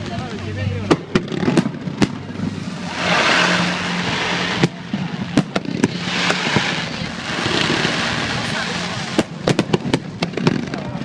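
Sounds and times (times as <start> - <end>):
fireworks crackling hiss: 0.0 - 11.0
fireworks bangs: 0.8 - 11.0.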